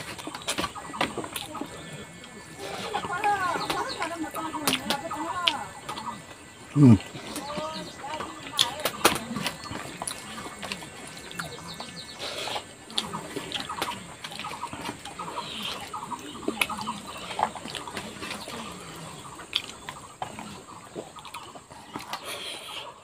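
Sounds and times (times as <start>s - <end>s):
wet chewing and lip-smacking: 0.0s - 7.3s, 8.5s - 22.9s.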